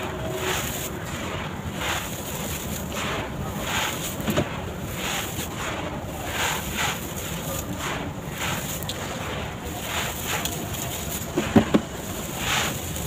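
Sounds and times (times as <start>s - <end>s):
sand-cement bars crumbling: 0.0s - 13.0s.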